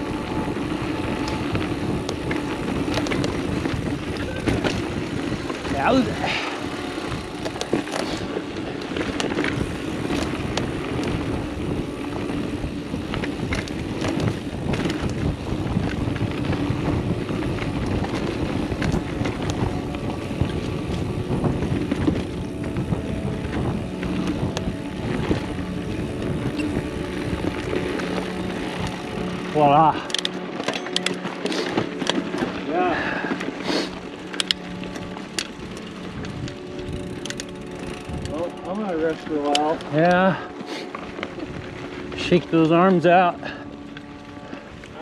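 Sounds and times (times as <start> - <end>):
wind on microphone: 0.0 - 30.4, 32.7 - 38.7, 40.2 - 42.6
bike clicks and rattles: 0.0 - 45.0
tyres rolling over dirt: 0.0 - 45.0.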